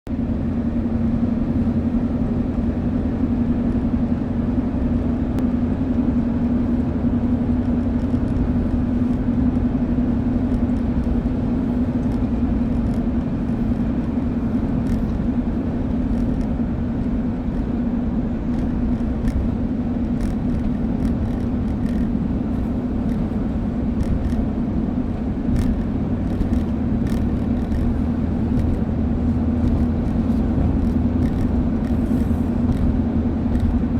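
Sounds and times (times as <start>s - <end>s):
road rumble: 0.0s - 33.9s.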